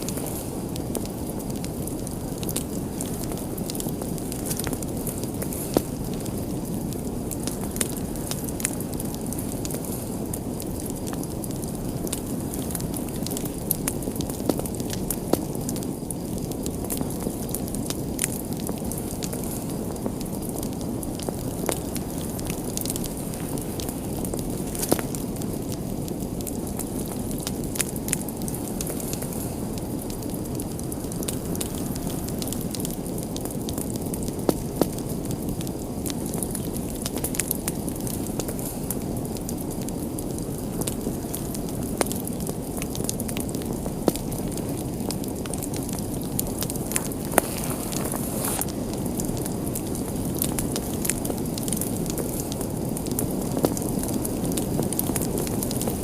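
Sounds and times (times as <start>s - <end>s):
flames rushing: 0.0s - 56.0s
wood fire crackling and popping: 0.0s - 56.0s.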